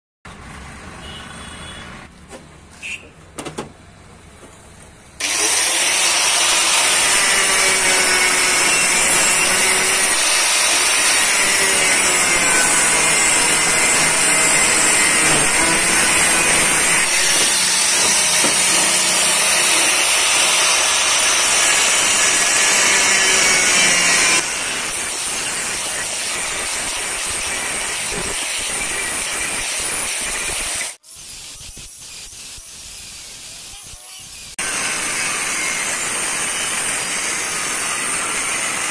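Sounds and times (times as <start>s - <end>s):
angle grinder cutting steel tube: 5.2s - 38.9s.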